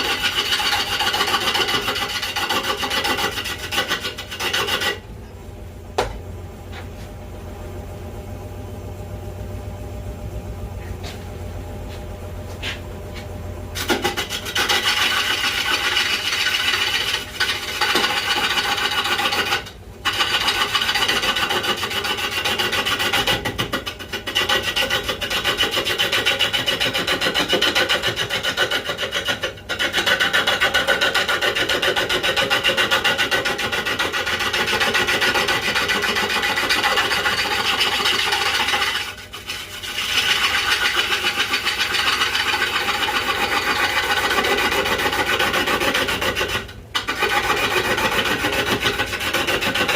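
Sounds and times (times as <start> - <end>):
wood lathe humming: 0.0 - 5.0, 14.1 - 49.9
gouge scraping spinning wood: 0.0 - 5.1, 13.8 - 49.9.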